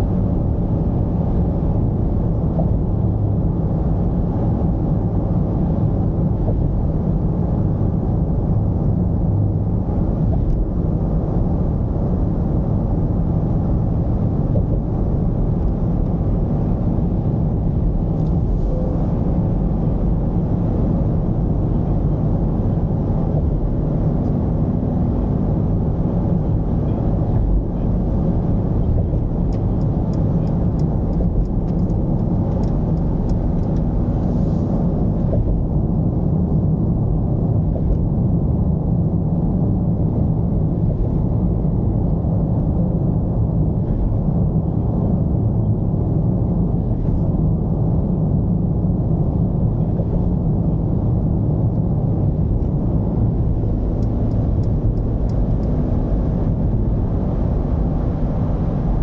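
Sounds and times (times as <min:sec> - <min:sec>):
diesel engine and road noise: 0:00.0 - 0:59.0.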